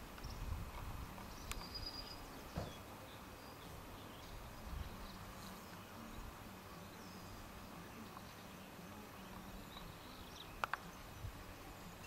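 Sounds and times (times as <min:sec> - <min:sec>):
faint birds chirping: 0:00.0 - 0:12.0
low background noise: 0:00.0 - 0:12.0.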